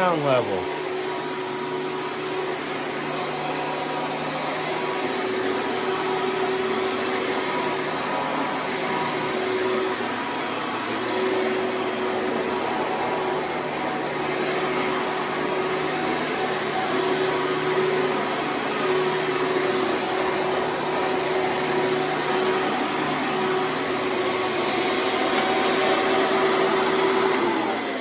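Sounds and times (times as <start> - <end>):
upright vacuum cleaner running: 0.0 - 28.0.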